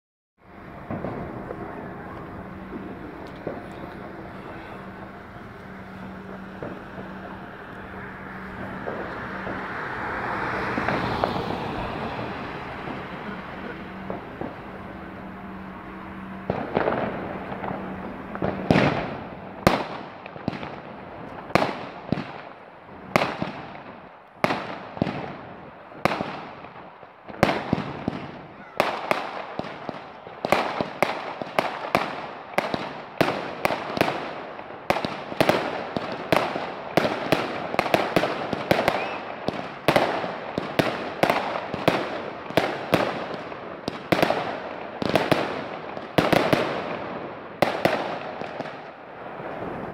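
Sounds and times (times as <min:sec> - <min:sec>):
fireworks bangs with ringing echo: 0:00.5 - 0:49.9.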